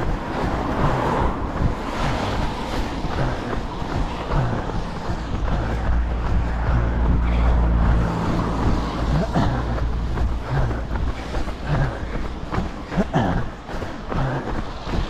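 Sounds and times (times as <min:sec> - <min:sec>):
cars passing close by: 0:00.0 - 0:15.0
wind rumble on microphone: 0:00.0 - 0:15.0.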